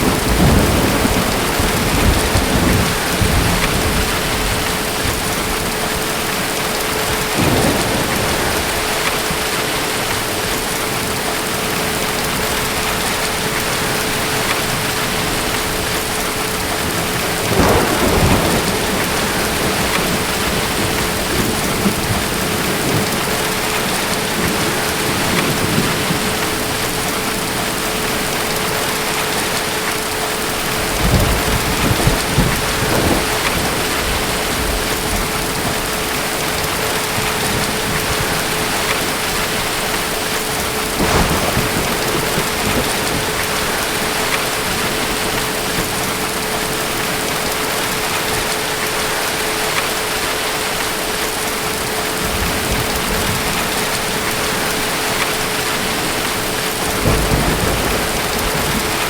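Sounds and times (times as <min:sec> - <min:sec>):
thunder rumbling: 0:00.0 - 0:50.2, 0:51.0 - 0:59.0
heavy rain: 0:00.0 - 0:59.0.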